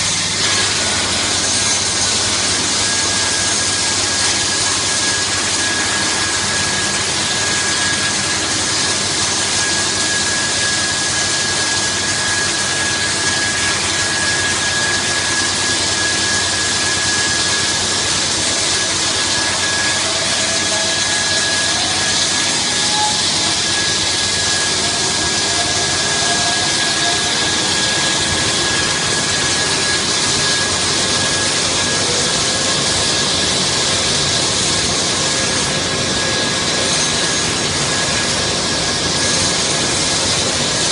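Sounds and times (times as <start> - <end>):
constant high whine: 0.0 - 40.9.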